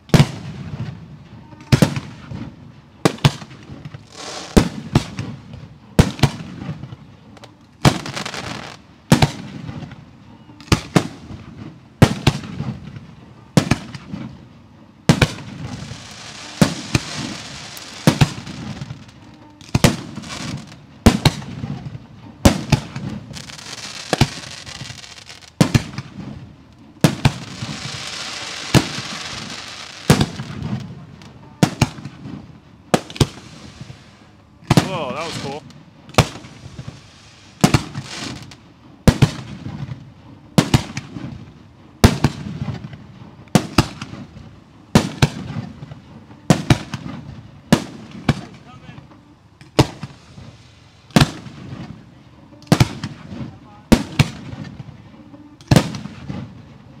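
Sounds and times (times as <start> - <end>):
fireworks crackling hiss: 0.0 - 10.0, 15.1 - 55.0, 55.6 - 57.0
fireworks bangs: 1.6 - 6.9, 7.8 - 10.0, 15.1 - 49.0, 49.6 - 52.1, 52.7 - 54.9.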